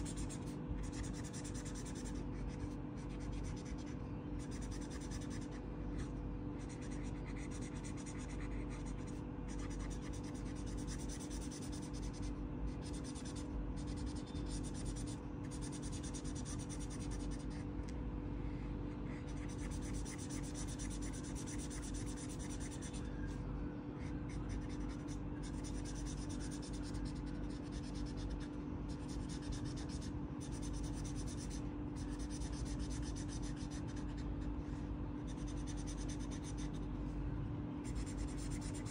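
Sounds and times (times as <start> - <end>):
marker scratching on paper: 0.0 - 17.7, 19.0 - 23.0, 24.0 - 36.9, 37.8 - 38.9
steady low hum: 0.0 - 38.9.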